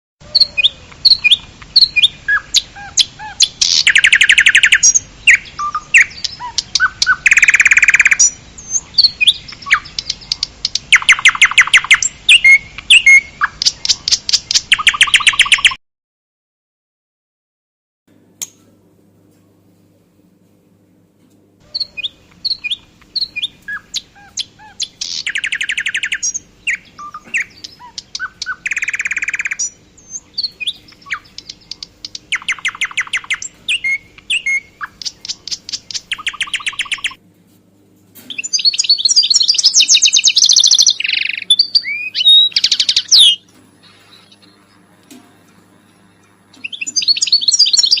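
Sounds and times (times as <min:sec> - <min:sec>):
lovebirds chirping and chattering: 0:00.2 - 0:15.8, 0:21.6 - 0:37.2, 0:38.2 - 0:48.0.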